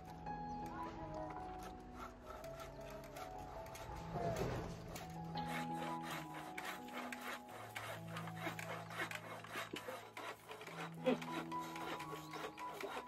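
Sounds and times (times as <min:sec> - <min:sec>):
saw rasping through log: 0:00.0 - 0:13.0.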